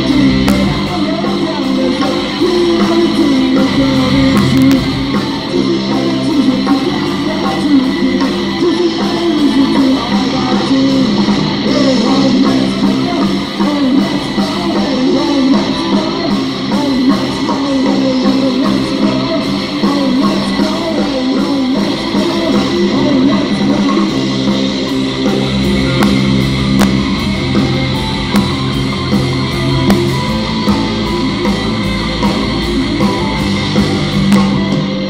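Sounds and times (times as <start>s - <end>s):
bass guitar: 0.0s - 35.0s
drums: 0.0s - 35.0s
electric guitars melody: 0.0s - 35.0s.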